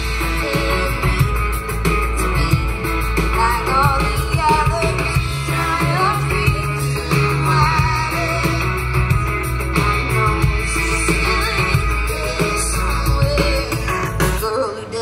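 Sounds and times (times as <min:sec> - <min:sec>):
live rock band playing: 0:00.0 - 0:15.0
person singing: 0:00.0 - 0:15.0
steady bass line: 0:00.0 - 0:15.0.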